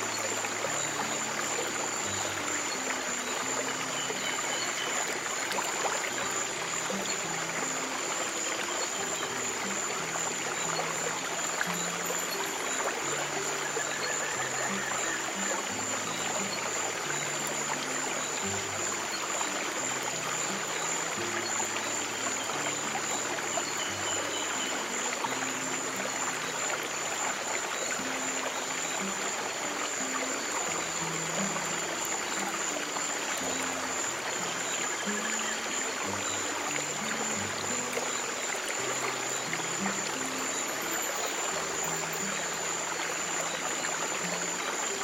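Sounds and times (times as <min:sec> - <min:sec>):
stream water flowing: 0:00.0 - 0:45.0.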